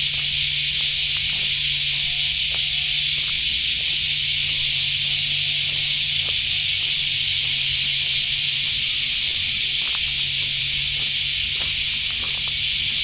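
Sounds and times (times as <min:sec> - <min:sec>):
insects chorus hissing: 0:00.0 - 0:13.0.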